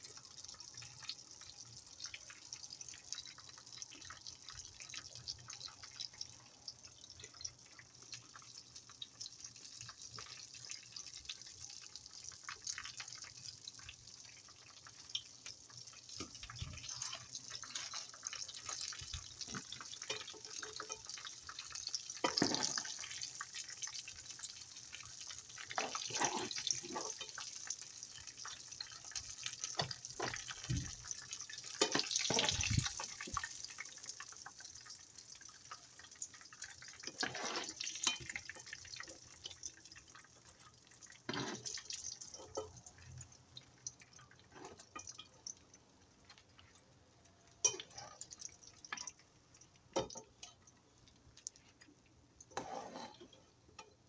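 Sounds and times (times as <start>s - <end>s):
food frying in hot oil: 0.0s - 54.0s.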